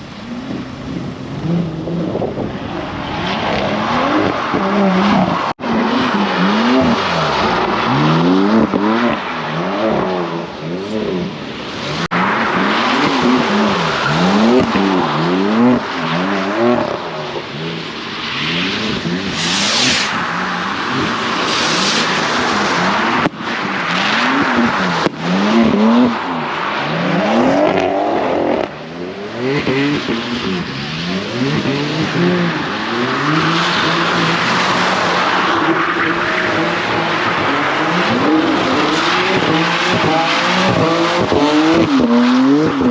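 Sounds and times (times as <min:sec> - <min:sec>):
car engines revving hard: 0:00.0 - 0:42.9.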